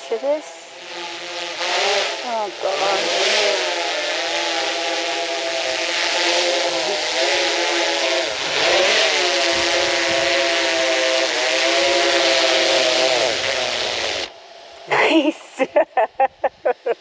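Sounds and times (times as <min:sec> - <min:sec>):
drone propellers whining: 0:00.4 - 0:15.3.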